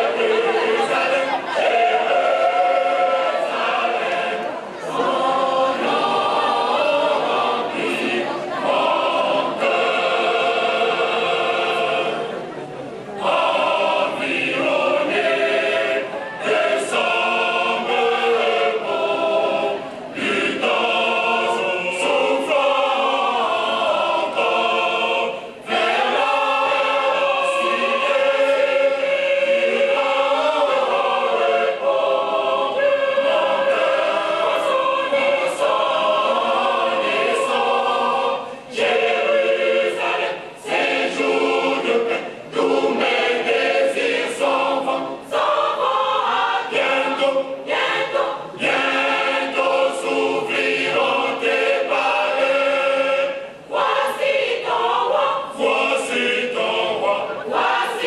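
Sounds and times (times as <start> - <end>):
mixed choir singing a hymn: 0.0 - 58.0.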